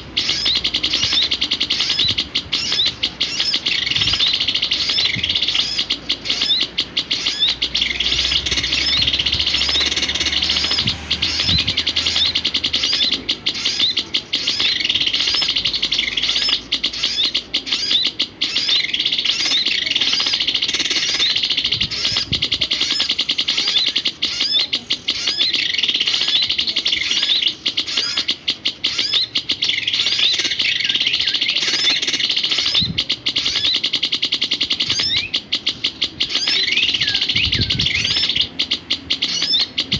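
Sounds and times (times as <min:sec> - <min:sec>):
small songbird chirping: 0:00.0 - 0:39.9.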